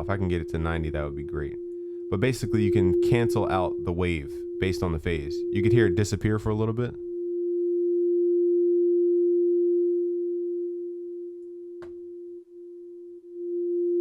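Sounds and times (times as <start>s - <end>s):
synthesizer sine-wave tone: 0.0s - 14.0s.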